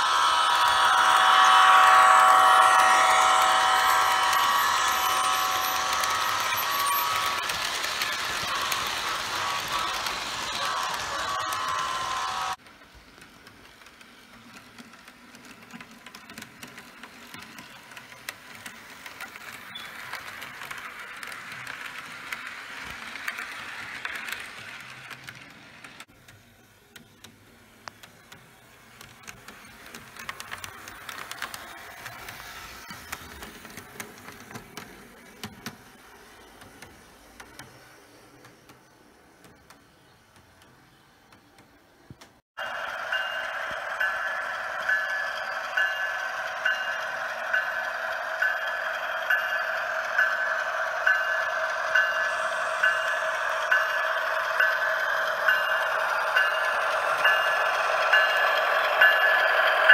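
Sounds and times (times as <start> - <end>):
model train rolling rumble: 0.0 - 59.9
model train wheels clicking: 0.0 - 59.9.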